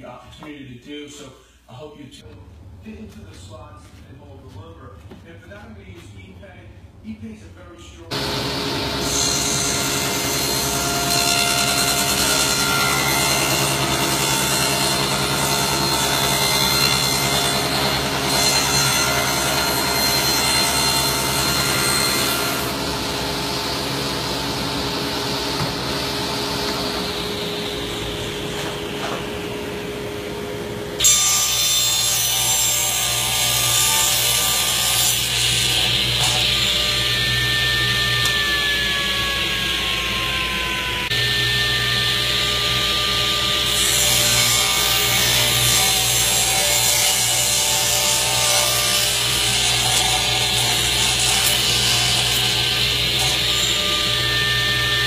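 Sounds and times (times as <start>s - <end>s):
power saw cutting: 8.1s - 28.5s, 31.0s - 55.0s.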